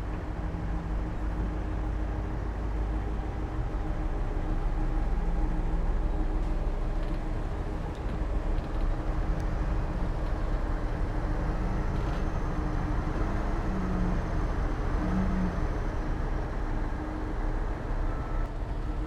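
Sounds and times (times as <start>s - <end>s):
heavy diesel machinery droning: 0.0s - 19.0s.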